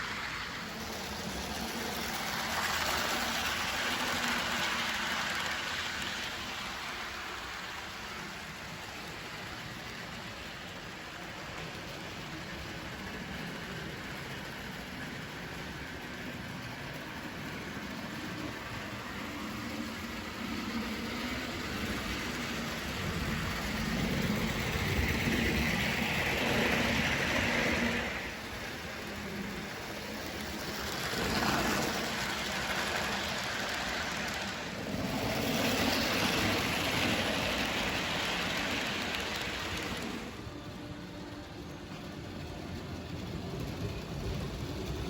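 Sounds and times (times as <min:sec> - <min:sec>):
model train hiss and rumble: 0:00.0 - 0:45.0.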